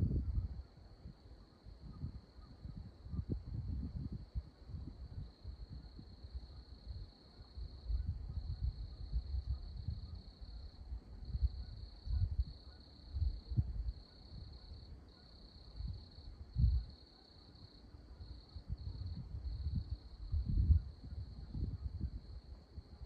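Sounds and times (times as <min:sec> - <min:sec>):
wind rumble on microphone: 0:00.0 - 0:17.0, 0:18.0 - 0:23.0.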